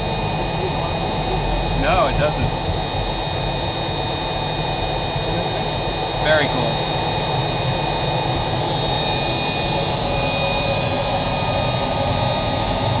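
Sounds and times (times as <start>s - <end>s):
jet engine high whine: 0.0s - 13.0s.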